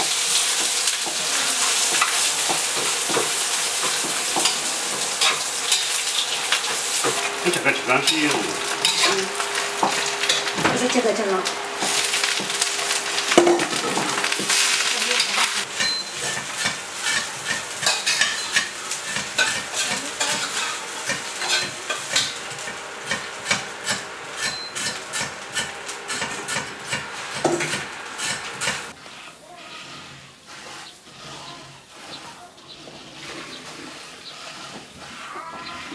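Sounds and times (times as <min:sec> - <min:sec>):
food sizzling in a wok: 0:00.0 - 0:29.2.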